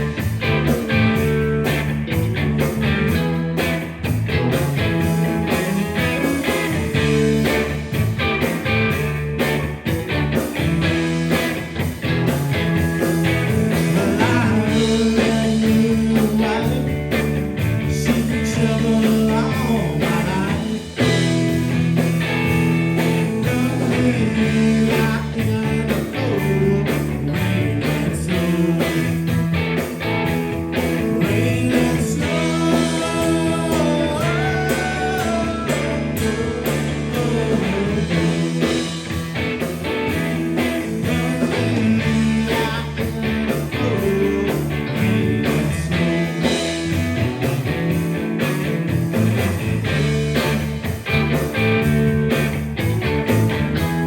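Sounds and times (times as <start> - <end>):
bending guitar lines: 0.0 - 54.0
blues-rock band playing: 0.0 - 54.0.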